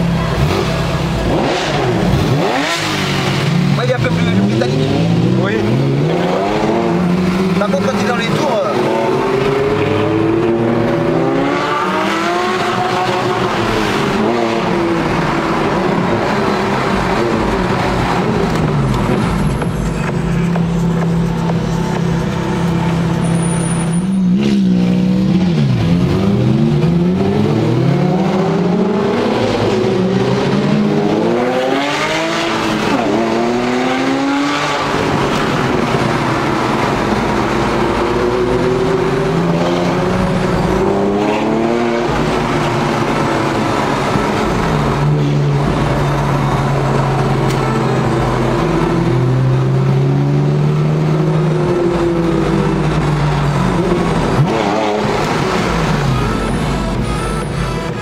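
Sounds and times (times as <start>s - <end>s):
car engine accelerating through gears: 0.0s - 58.0s.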